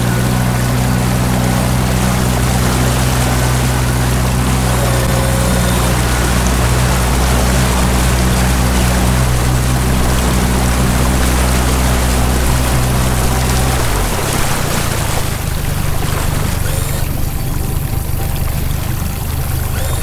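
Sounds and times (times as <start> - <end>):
outboard motor humming: 0.0 - 20.0
rushing water: 0.0 - 20.0.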